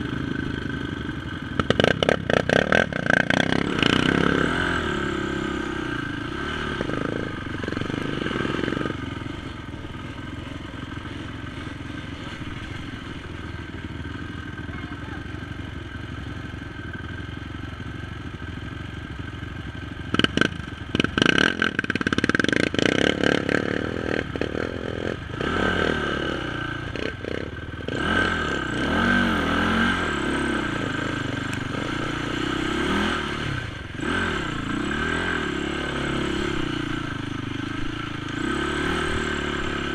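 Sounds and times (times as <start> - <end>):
quad engine revving: 0.0 - 13.6, 20.1 - 39.9.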